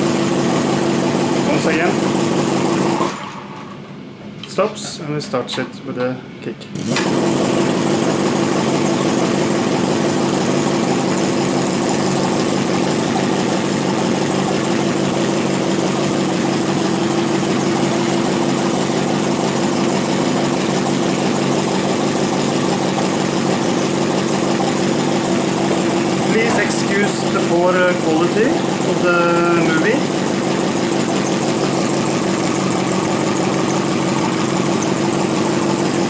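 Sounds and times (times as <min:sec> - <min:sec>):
model engine running rhythmically: 0:00.0 - 0:03.2, 0:06.8 - 0:36.0.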